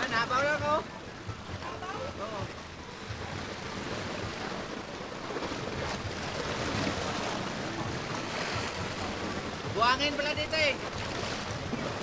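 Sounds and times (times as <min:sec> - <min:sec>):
waves splashing against rocks: 0:00.0 - 0:12.0.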